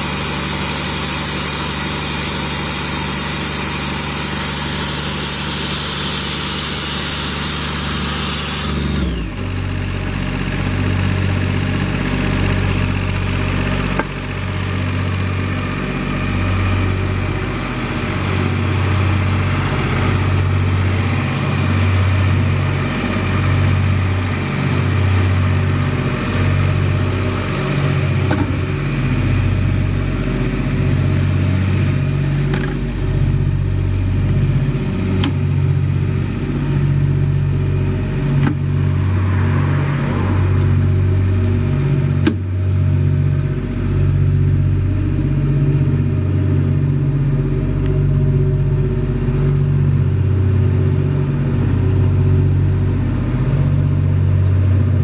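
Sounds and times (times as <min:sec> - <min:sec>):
air compressors droning: 0:00.0 - 0:09.7, 0:14.9 - 0:55.0.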